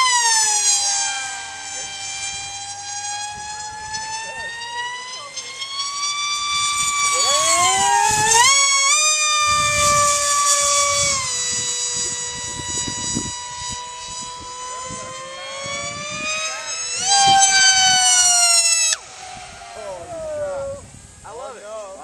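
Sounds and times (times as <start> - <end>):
model jet motor whining: 0.0 - 22.0
wind rumble on microphone: 0.0 - 22.0.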